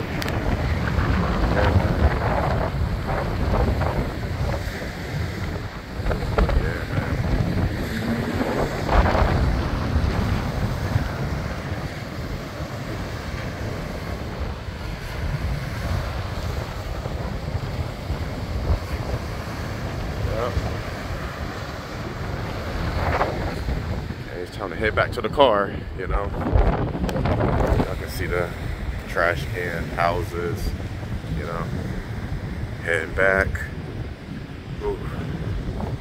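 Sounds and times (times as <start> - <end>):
small waves breaking on beach: 0.0 - 36.0
wind buffeting microphone: 0.0 - 36.0.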